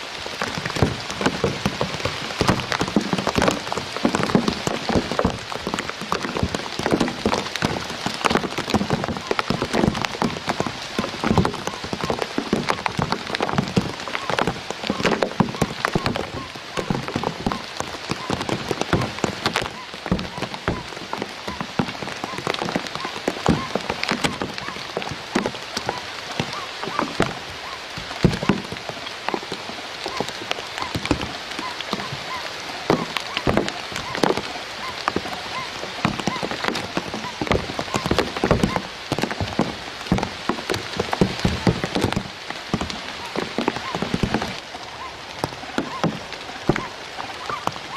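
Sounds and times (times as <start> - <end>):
rain on reeds and leaves: 0.0 - 47.9.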